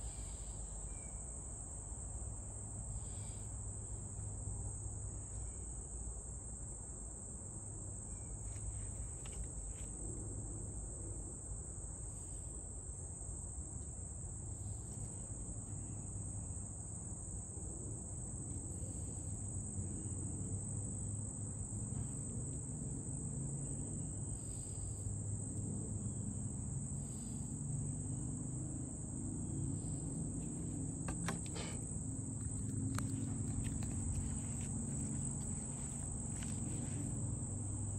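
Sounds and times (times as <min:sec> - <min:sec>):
high-pitched insect chorus: 0:00.0 - 0:06.8, 0:11.6 - 0:37.9.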